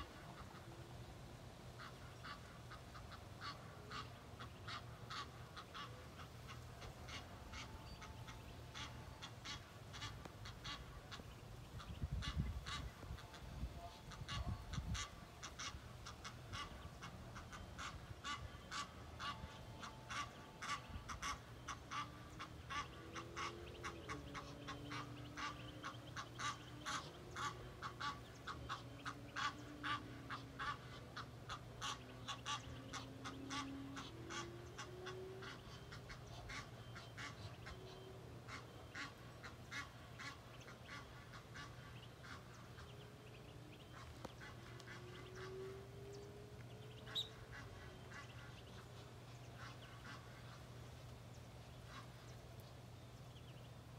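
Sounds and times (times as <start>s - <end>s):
waterfowl honking: 1.8s - 50.7s.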